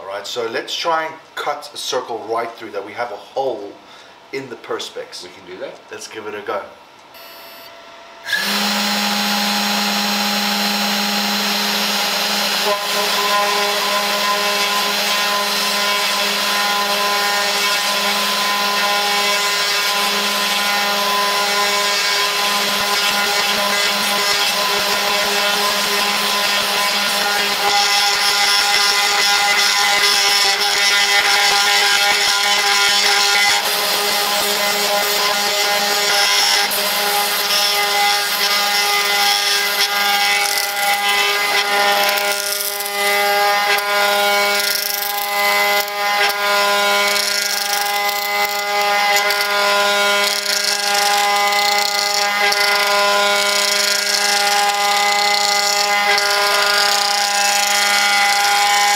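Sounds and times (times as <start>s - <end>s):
router spindle whine: 7.2s - 58.9s
rough cutting noise: 8.2s - 58.9s.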